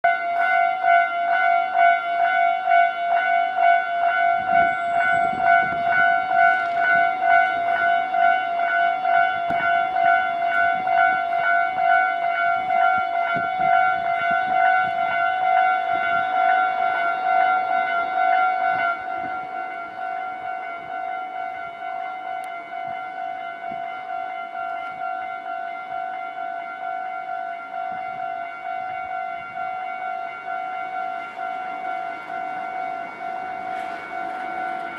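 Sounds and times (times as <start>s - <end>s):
level crossing bell ringing: 0.0s - 34.9s.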